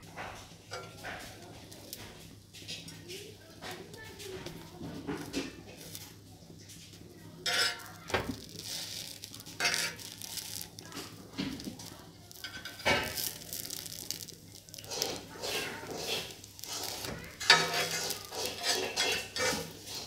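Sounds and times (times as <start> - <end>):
spatula scraping a frying pan: 3.6 - 20.0.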